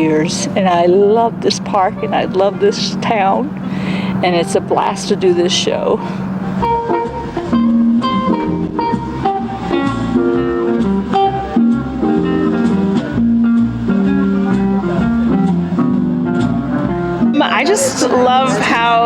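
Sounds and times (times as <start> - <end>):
guitar plucked notes and chords: 0.0 - 19.0.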